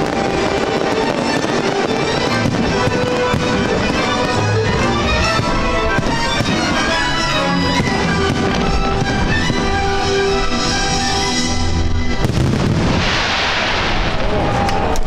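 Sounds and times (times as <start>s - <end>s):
instrumental music: 0.0s - 12.9s
fireworks bursting and crackling: 0.0s - 15.0s.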